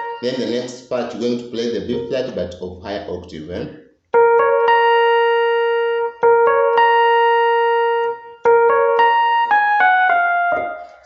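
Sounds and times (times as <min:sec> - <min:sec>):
electronic keyboard piano melody: 0:00.0 - 0:02.5, 0:04.1 - 0:11.0.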